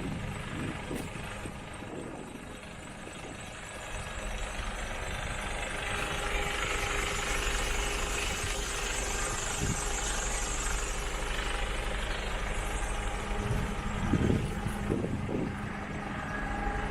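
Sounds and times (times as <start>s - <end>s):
truck diesel engine idling: 0.0s - 16.9s.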